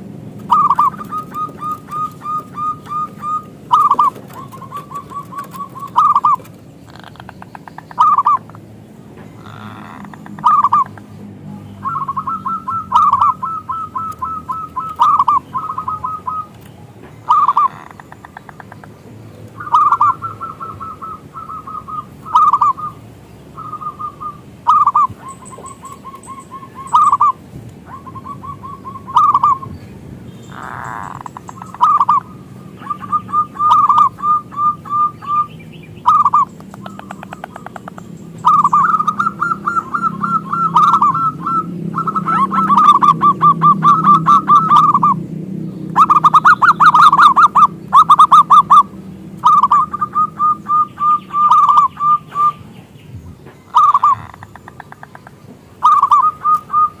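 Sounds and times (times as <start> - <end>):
dove cooing: 0.0 - 8.7, 9.3 - 11.1, 11.8 - 18.9, 19.6 - 23.0, 23.6 - 29.8, 30.5 - 45.3, 45.9 - 52.6, 53.5 - 57.0.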